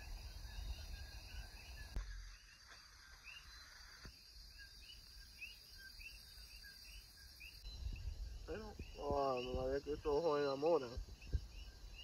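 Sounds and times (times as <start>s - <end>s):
high insect hum: 0.0s - 12.0s.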